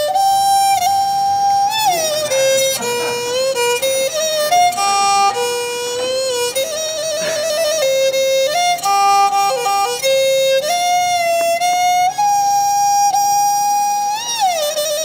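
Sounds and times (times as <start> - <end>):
solo bowed string melody: 0.0 - 15.0.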